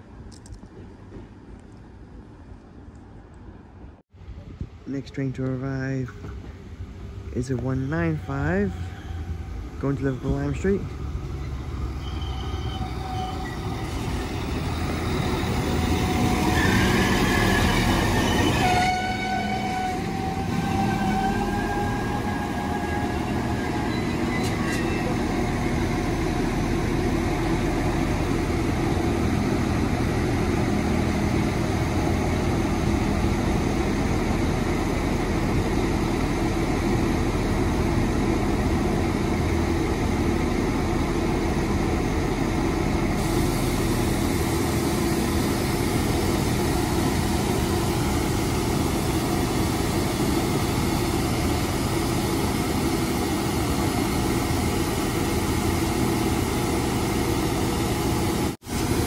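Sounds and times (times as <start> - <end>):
diesel train engines idling: 4.8 - 59.0.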